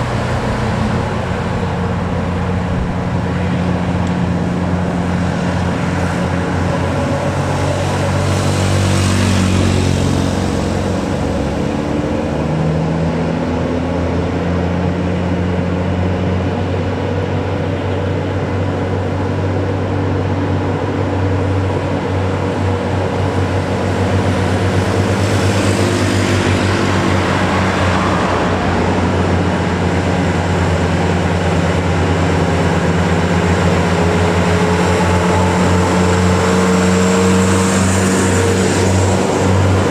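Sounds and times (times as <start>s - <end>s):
diesel truck engine labouring: 0.0s - 39.9s
vehicles rushing past: 0.0s - 39.9s.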